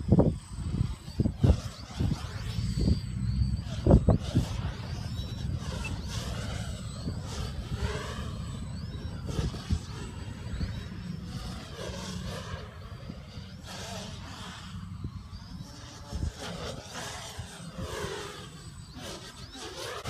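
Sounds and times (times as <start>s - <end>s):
quadcopter motors whining: 0.0s - 20.0s
wind rumble on microphone: 0.0s - 20.0s.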